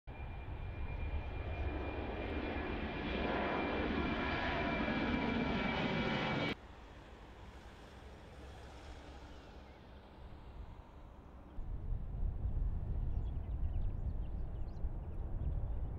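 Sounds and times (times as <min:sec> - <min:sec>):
jet engines with high whine: 0:00.1 - 0:15.9.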